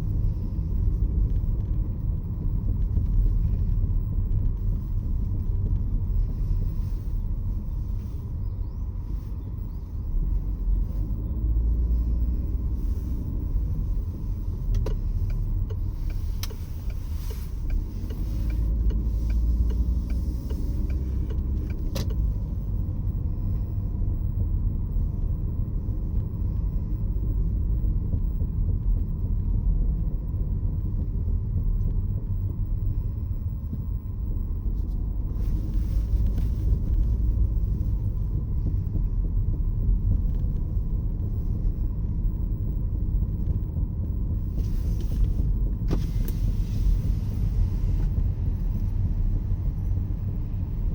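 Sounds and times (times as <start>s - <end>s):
low road rumble: 0.0s - 50.9s.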